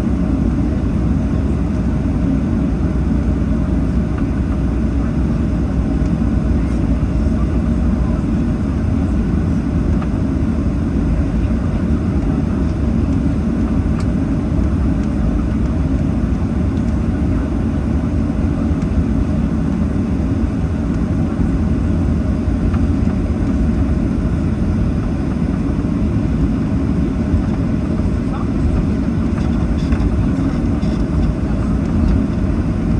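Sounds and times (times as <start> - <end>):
airplane cabin rumble: 0.0 - 32.9.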